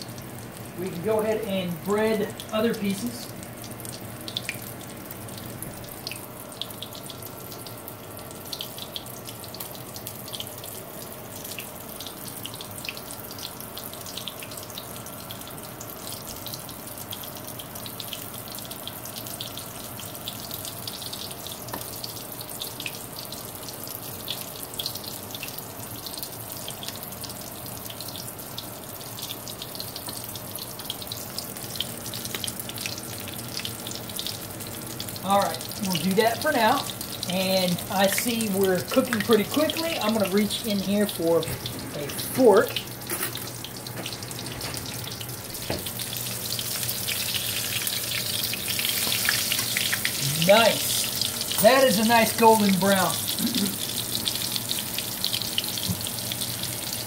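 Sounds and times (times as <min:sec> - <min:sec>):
steak sizzling and popping in pan: 0:03.4 - 0:57.0.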